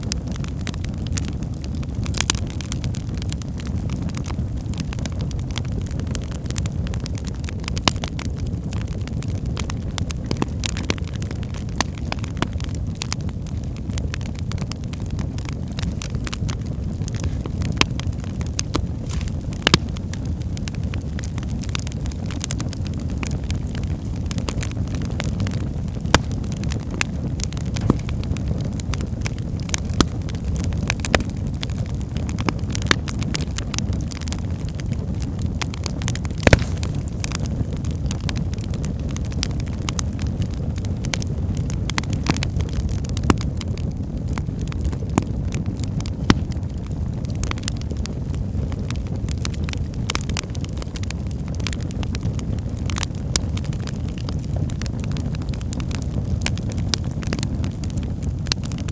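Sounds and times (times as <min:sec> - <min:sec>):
crackles and pops of burning logs: 0:00.0 - 0:58.9
fire rumbling: 0:00.0 - 0:58.9.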